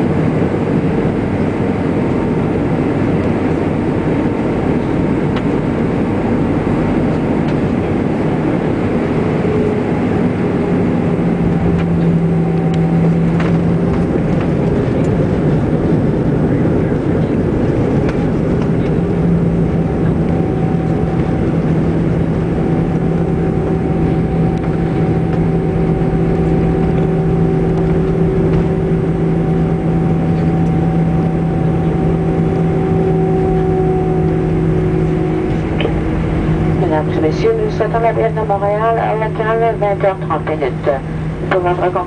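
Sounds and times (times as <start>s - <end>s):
constant rumble: 0.0s - 42.0s
jet engines humming: 0.0s - 42.0s.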